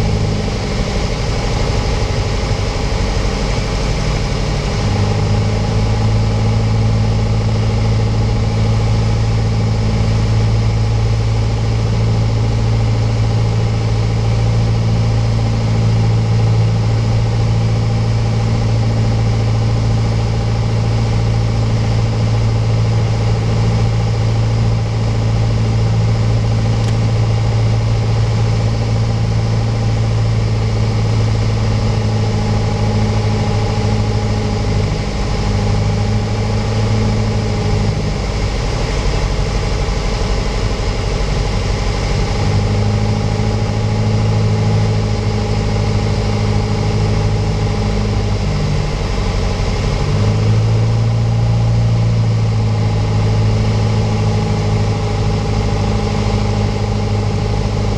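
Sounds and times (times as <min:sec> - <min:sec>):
propeller plane engine droning: 0:00.0 - 0:57.9.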